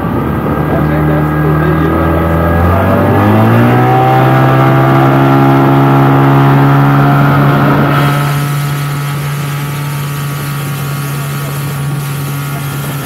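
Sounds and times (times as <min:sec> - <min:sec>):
outboard motor speeding up: 0:00.0 - 0:13.0.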